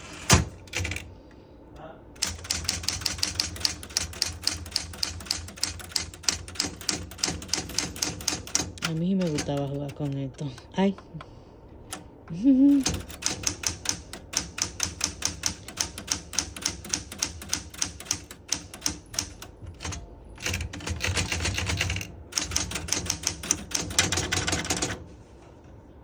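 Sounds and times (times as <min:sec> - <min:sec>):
typewriter keys clacking: 0:00.7 - 0:01.0, 0:02.2 - 0:10.7, 0:12.7 - 0:25.0.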